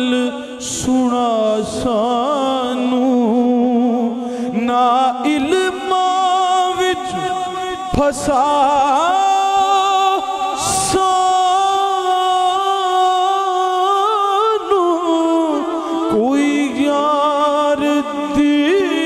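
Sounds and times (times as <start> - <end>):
man singing melismatic passage: 0.0 - 19.0.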